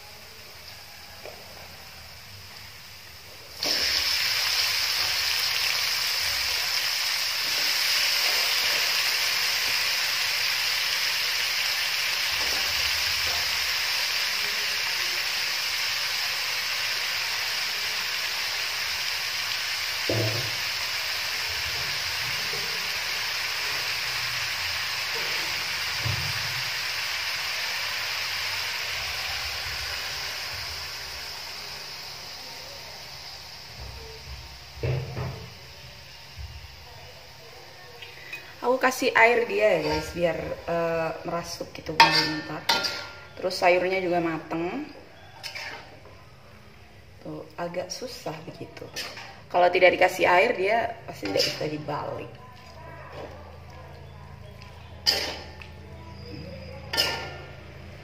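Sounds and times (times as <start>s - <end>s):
vegetables sizzling in a wok: 0.0s - 58.0s.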